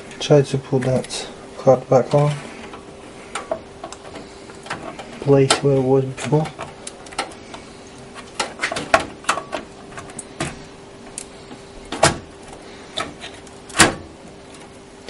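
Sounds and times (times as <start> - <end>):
faint steady hum: 0.0 - 15.0
clicks and knocks of hardware handling: 2.1 - 14.7.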